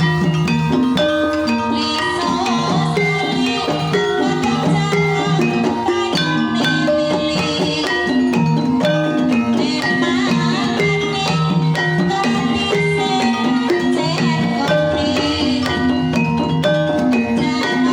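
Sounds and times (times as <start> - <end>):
drumming: 0.0 - 17.9
mallet-struck tuned instruments: 0.0 - 17.9.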